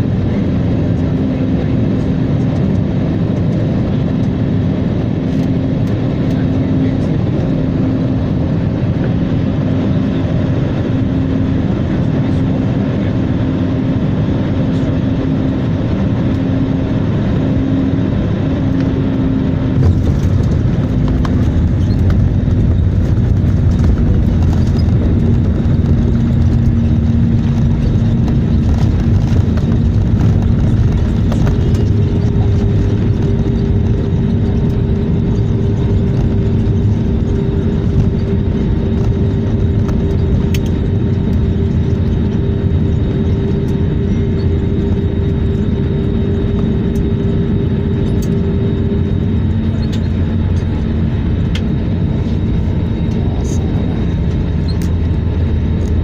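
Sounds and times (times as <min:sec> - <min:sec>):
airliner engine drone: 0:00.0 - 0:56.0.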